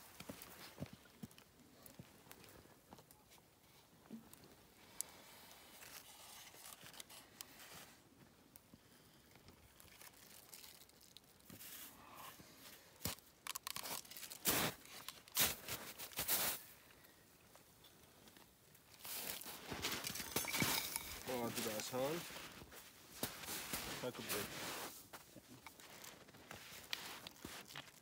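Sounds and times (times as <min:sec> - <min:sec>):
faint rustling and crinkling: 0:00.0 - 0:28.0.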